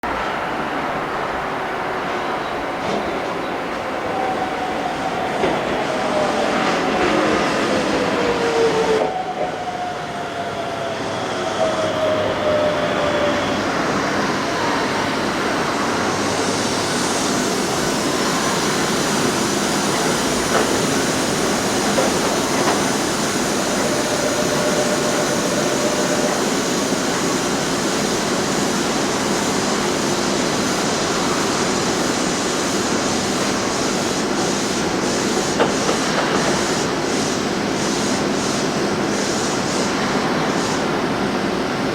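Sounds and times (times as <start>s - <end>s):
electric train rumbling: 0.0s - 41.9s.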